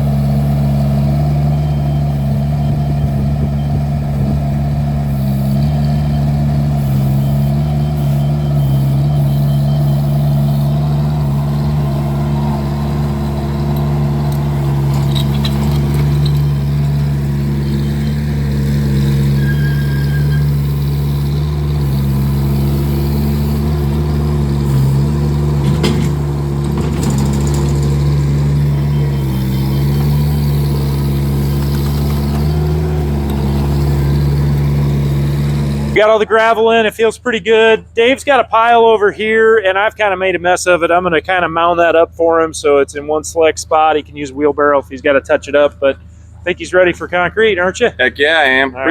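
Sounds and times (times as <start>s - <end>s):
skid steer engine running: 0.0s - 48.9s.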